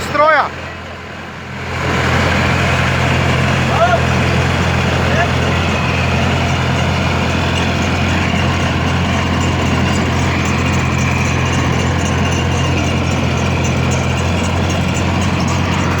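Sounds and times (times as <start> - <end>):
tiller engine droning: 0.0 - 16.0.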